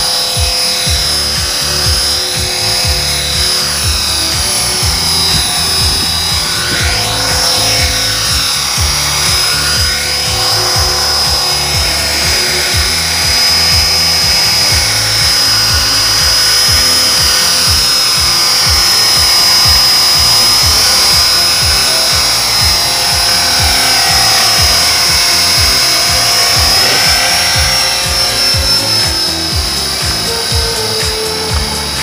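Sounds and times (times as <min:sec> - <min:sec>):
music with steady beat: 0:00.0 - 0:32.0
remote-control helicopter whining: 0:00.0 - 0:32.0.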